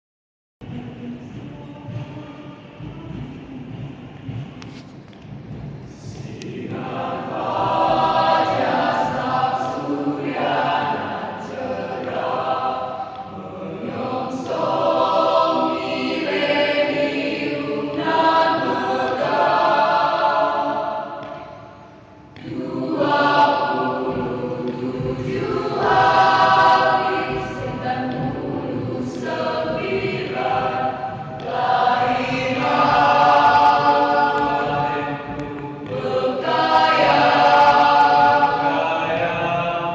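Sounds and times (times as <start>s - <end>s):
choir singing: 5.9s - 39.9s.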